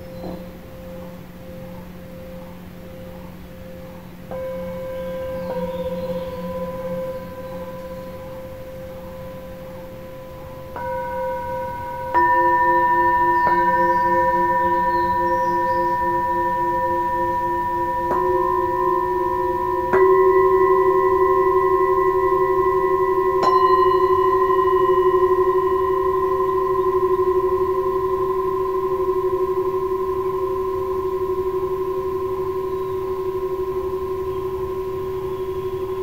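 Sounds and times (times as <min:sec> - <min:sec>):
singing bowls struck with mallet: 0:00.0 - 0:36.0.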